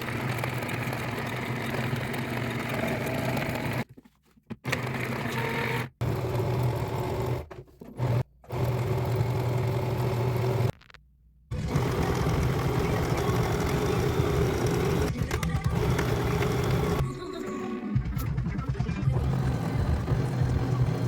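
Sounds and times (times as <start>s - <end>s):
sewing machine running: 0.0s - 3.8s, 4.6s - 10.7s, 11.5s - 17.0s, 18.2s - 21.0s.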